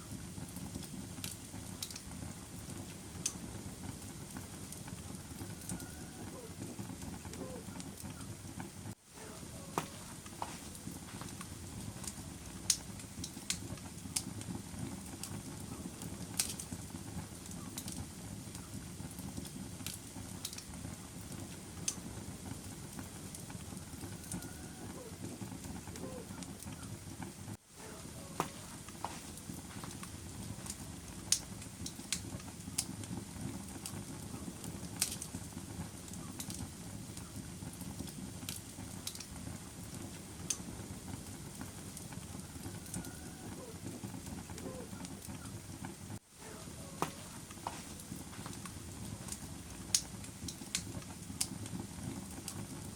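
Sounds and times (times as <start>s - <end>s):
fire crackles and pops: 0.0s - 52.9s
fire rumbling in fireplace: 0.0s - 52.9s.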